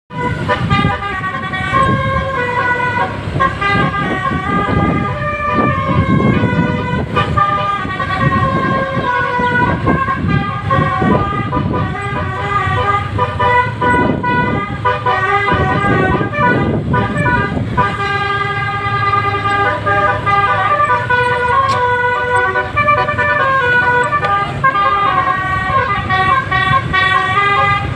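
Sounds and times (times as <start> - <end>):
bus air horn melody: 0.1 - 27.9.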